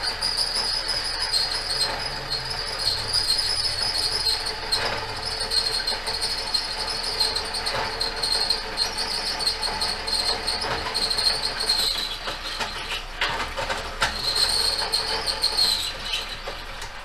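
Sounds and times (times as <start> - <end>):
band saw whining through metal: 0.0 - 16.9.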